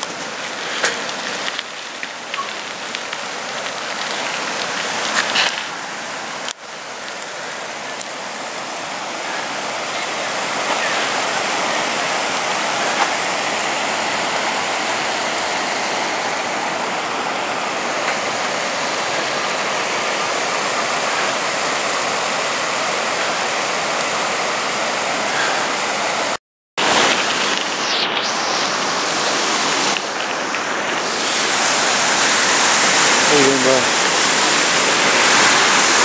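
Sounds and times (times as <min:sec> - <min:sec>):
water rushing over rocks: 0:00.0 - 0:36.0.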